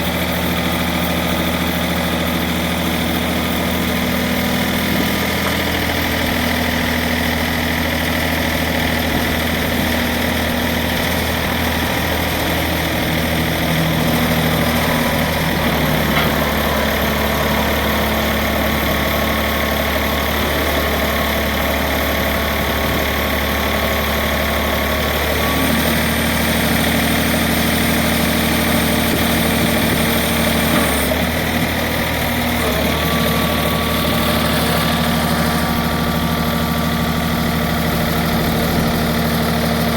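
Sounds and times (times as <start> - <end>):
hydraulic machine humming: 0.0 - 39.9.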